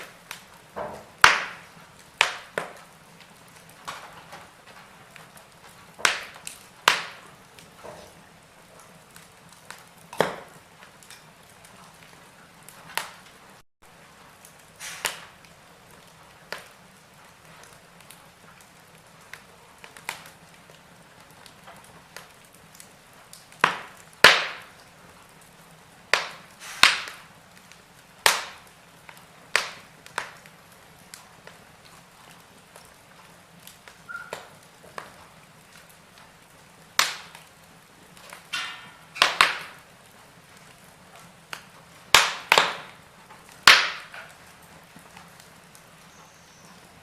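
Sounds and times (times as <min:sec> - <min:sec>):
faint steady hiss: 0:00.0 - 0:47.0
wood fire crackling and popping: 0:00.0 - 0:47.0.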